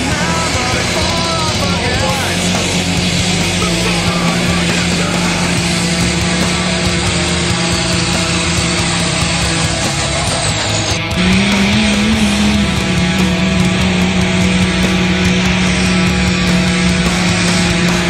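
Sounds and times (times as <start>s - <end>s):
heavy rock music: 0.0s - 18.0s.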